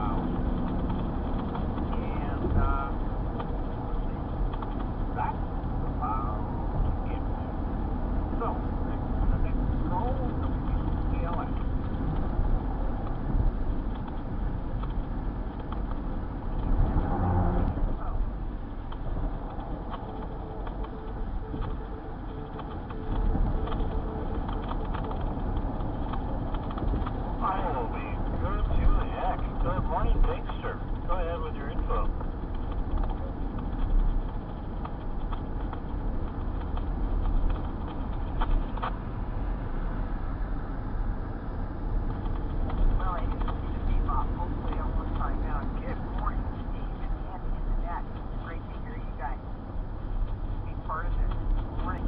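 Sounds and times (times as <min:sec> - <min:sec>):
car road and engine rumble: 0:00.0 - 0:52.0.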